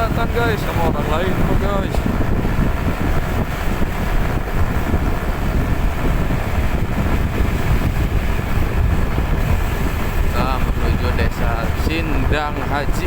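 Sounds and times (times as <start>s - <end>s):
engine and road noise rumble: 0.0s - 13.0s
wind rushing over microphone: 0.0s - 13.0s.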